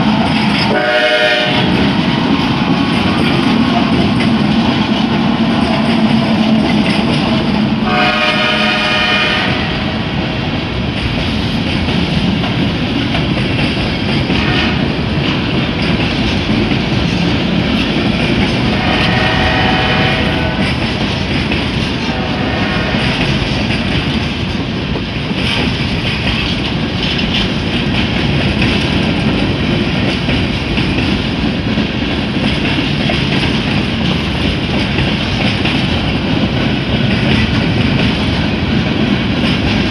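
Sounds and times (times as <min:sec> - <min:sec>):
diesel locomotive droning: 0:00.0 - 0:39.9
train wheels rumbling on rail: 0:00.0 - 0:39.9.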